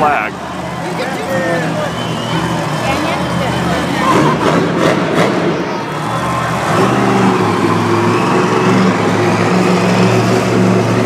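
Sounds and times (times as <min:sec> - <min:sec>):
arena crowd noise: 0:00.0 - 0:11.0
monster truck engine running: 0:00.0 - 0:11.0.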